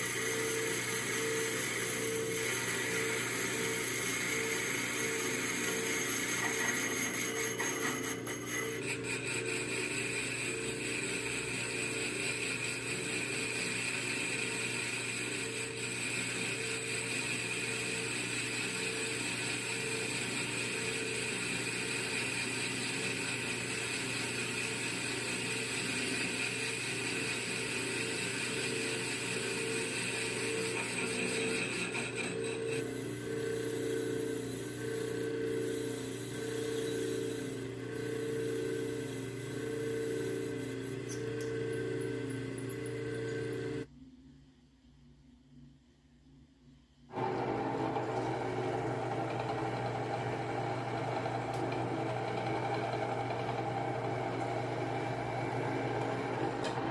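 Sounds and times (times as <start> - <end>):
small electric motor whining: 0.0 - 43.9, 47.1 - 56.9.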